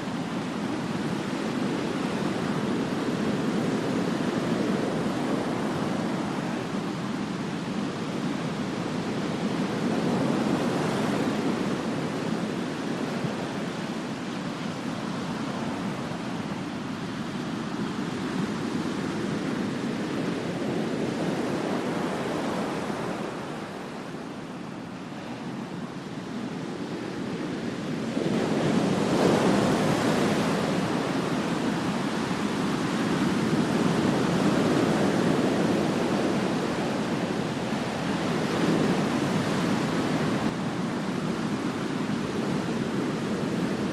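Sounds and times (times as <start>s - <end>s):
waves breaking on beach: 0.0s - 43.9s
wind buffeting microphone: 0.0s - 43.9s.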